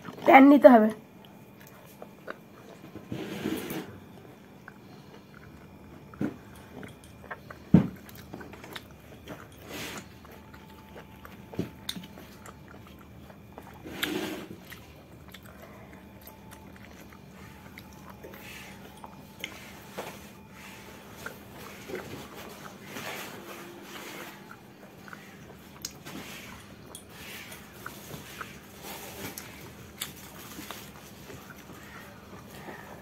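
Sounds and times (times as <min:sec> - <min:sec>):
faint steady hum: 0:00.0 - 0:33.0
person chewing food: 0:01.1 - 0:33.0.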